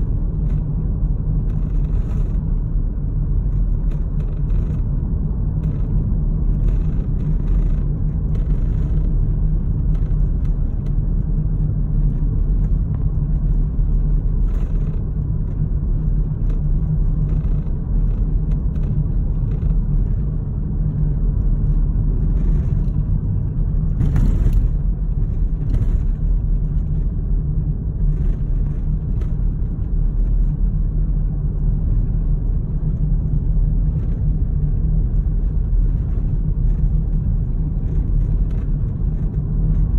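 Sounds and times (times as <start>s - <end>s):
car cabin road rumble: 0.0s - 39.9s
faint clicks and rattles: 0.0s - 39.9s.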